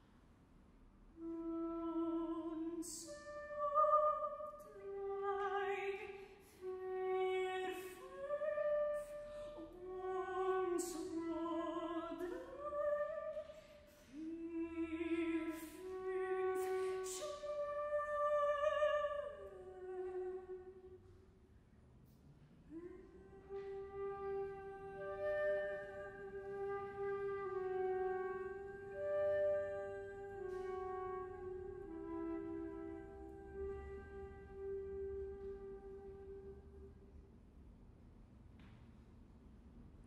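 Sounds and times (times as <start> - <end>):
soprano voice singing: 1.2 - 20.8, 22.7 - 36.4.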